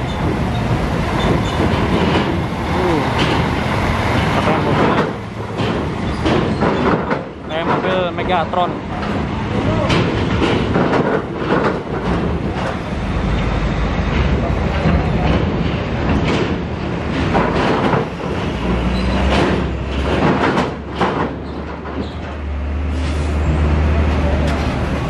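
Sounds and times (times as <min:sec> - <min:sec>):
wheels clanking on metal plates: 0:00.0 - 0:22.5
diesel truck engines: 0:00.0 - 0:25.0.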